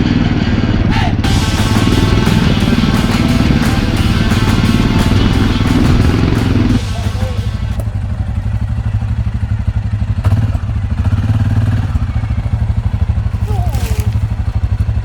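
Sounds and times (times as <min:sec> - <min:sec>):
quad bike engine idling: 0:00.0 - 0:15.0.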